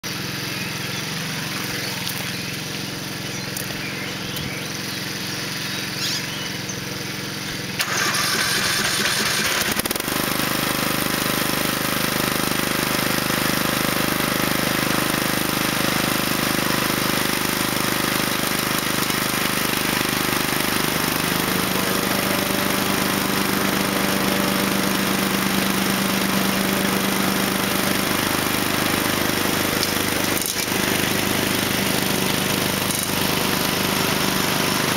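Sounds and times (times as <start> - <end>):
mower engine starting and running: 0.0 - 34.9
quieter engine idling: 0.0 - 34.9.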